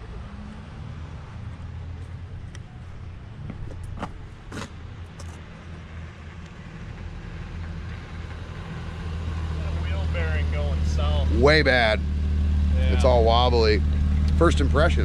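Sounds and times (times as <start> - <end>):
car engine approaching: 0.0 - 15.0.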